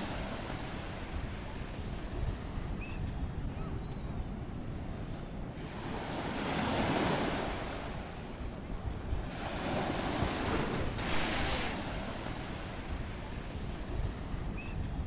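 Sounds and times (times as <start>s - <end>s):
sea waves breaking: 0.0s - 2.8s, 5.5s - 15.0s
wind buffeting microphone: 0.0s - 15.0s.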